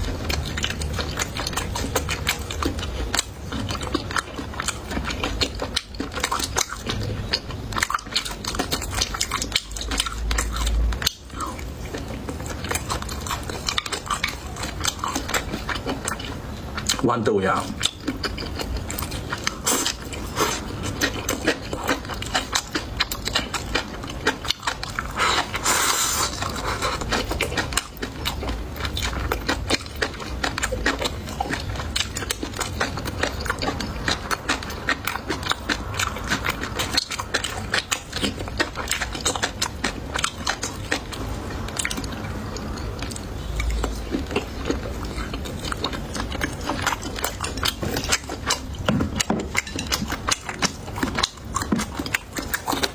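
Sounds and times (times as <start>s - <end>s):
person chewing and crunching: 0.0s - 52.9s.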